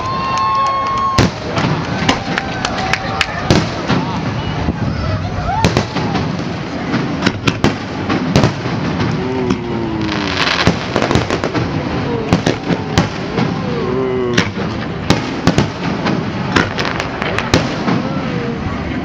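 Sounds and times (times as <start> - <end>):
fireworks bangs: 0.0 - 19.0
fireworks hissing crackle: 0.0 - 19.0.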